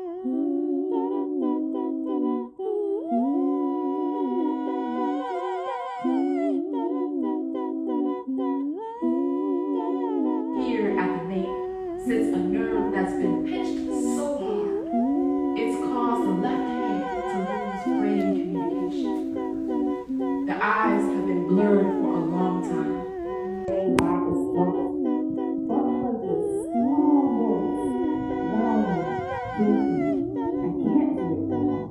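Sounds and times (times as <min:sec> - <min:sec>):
layered voices humming: 0:00.0 - 0:31.9.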